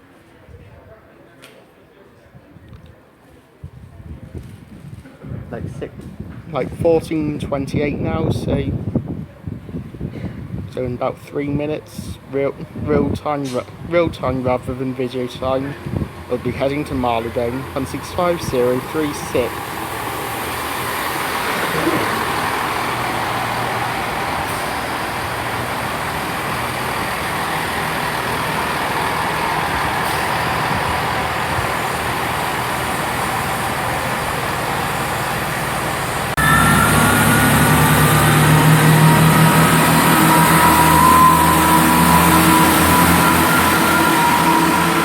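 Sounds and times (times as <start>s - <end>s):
diesel train engines running: 6.2s - 45.0s
diesel train pulling away: 6.2s - 45.0s.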